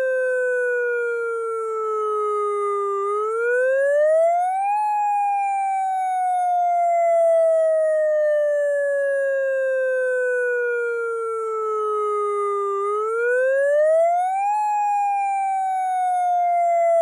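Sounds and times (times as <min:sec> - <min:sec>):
electronic siren wailing: 0:00.0 - 0:17.0.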